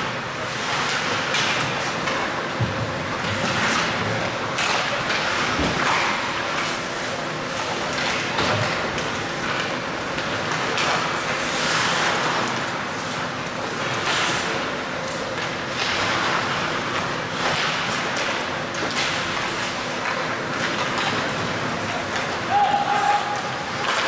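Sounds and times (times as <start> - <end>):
faint rink hum: 0.0 - 24.0
skates scraping on ice: 0.4 - 24.0.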